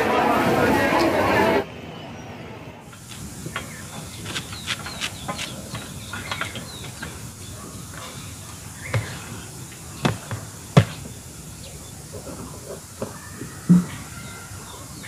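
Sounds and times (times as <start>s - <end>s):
small birds chirping: 1.9s - 15.0s.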